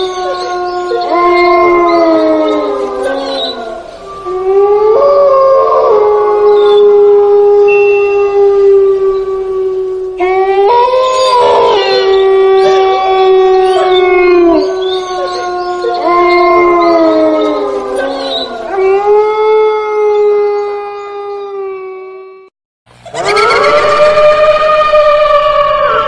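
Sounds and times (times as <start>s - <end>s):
dogs howling: 0.0s - 26.0s.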